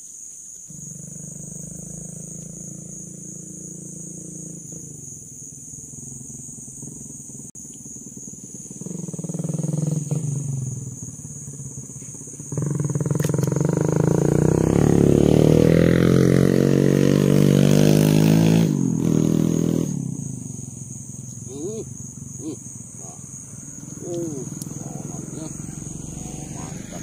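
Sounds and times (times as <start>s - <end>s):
high-pitched insect buzz: 0.0s - 27.0s
low engine hum: 0.9s - 27.0s.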